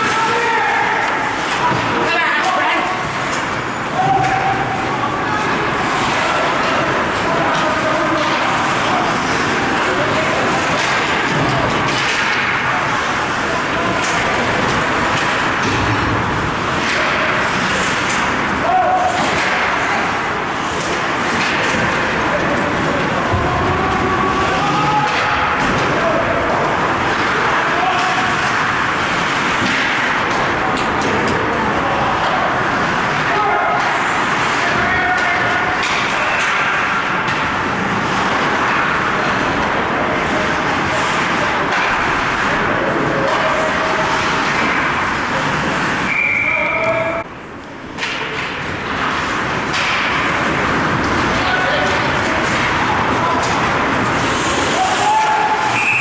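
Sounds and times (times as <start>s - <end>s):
crowd and arena noise: 0.0s - 56.0s
hockey play on ice: 0.0s - 56.0s.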